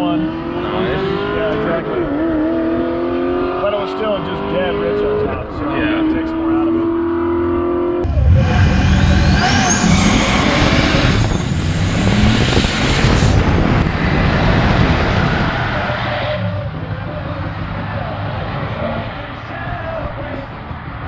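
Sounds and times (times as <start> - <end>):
drag car accelerating: 0.0 - 21.0.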